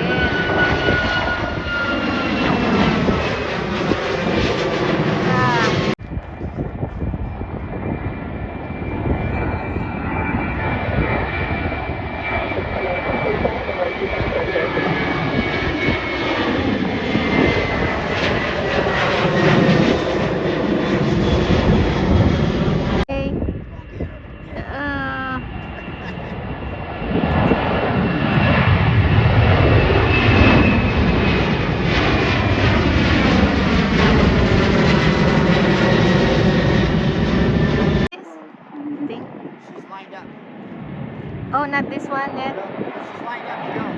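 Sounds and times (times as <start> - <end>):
jet engines rumbling overhead: 0.0 - 43.9.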